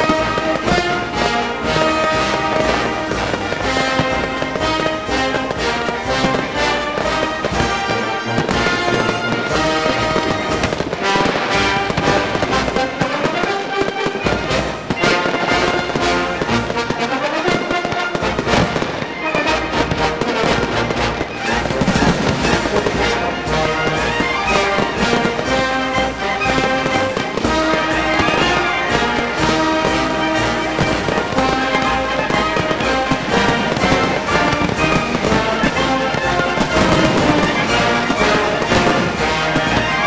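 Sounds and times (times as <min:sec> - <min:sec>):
fireworks bangs and cracks: 0:00.0 - 0:40.0
music playing: 0:00.0 - 0:40.0.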